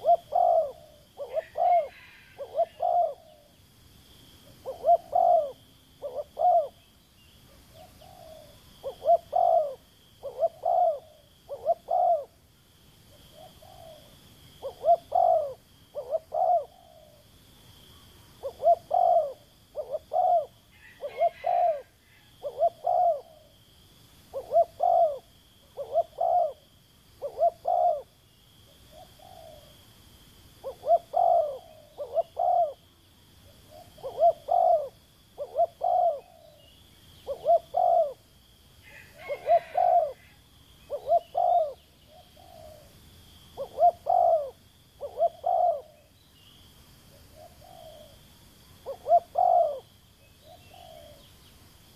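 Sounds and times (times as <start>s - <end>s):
dove cooing: 0.0s - 3.6s, 4.5s - 6.9s, 7.7s - 12.4s, 13.1s - 17.2s, 18.4s - 23.6s, 24.3s - 29.8s, 30.6s - 32.9s, 33.5s - 42.9s, 43.6s - 46.1s, 47.1s - 48.2s, 48.8s - 51.3s.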